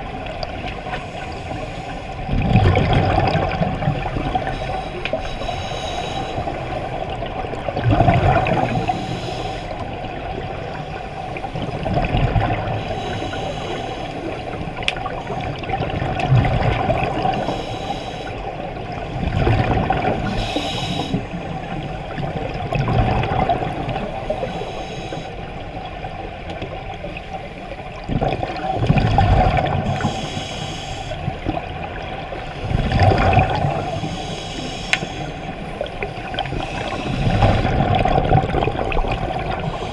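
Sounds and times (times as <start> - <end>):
steady underwater hiss: 0.0 - 39.9.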